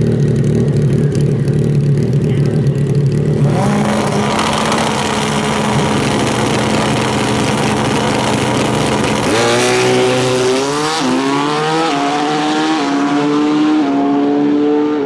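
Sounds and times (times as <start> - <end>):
motorcycle engines revving and accelerating: 0.0 - 15.0.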